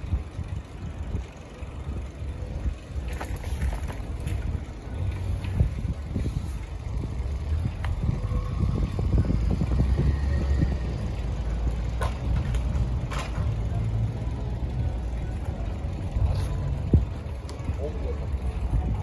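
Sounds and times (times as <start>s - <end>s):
wind buffeting microphone: 0.0s - 13.1s, 15.9s - 19.0s.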